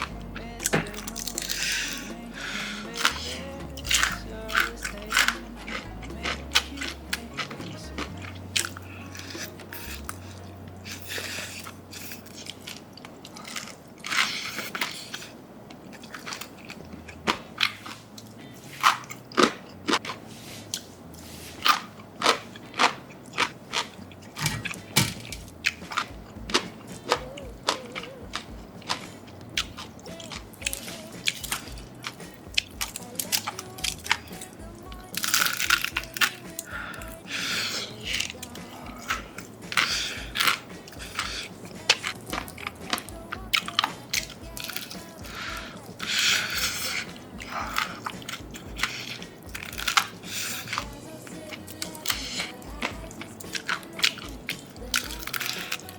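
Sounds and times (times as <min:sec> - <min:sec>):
crunchy chewing: 0:00.0 - 0:55.9
low background music: 0:00.0 - 0:55.9.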